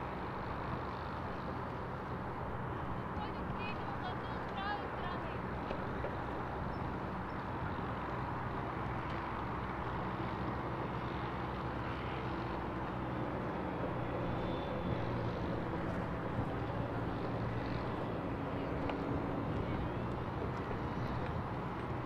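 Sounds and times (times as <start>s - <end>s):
engine drone: 0.0s - 22.0s
outdoor background noise: 0.0s - 22.0s.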